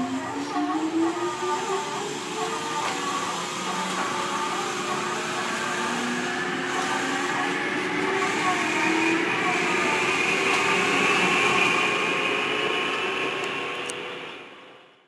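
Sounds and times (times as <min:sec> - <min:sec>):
train car rumble: 0:00.0 - 0:14.7.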